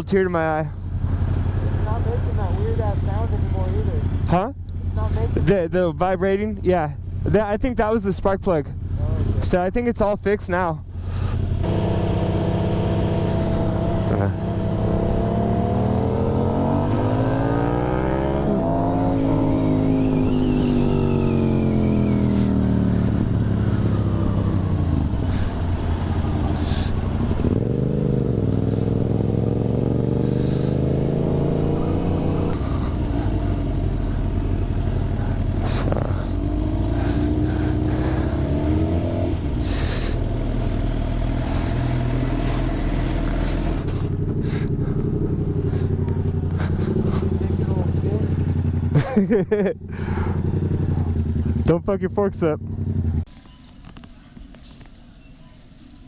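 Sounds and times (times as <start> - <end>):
motorcycle engine running: 0.0 - 54.8.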